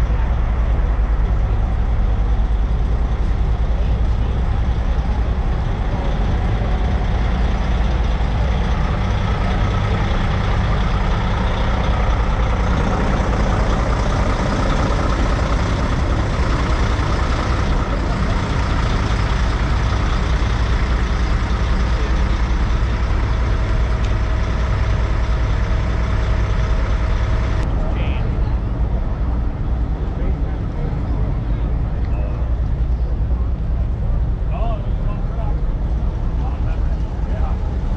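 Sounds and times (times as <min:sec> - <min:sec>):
diesel truck engines rumbling: 0:00.0 - 0:37.9.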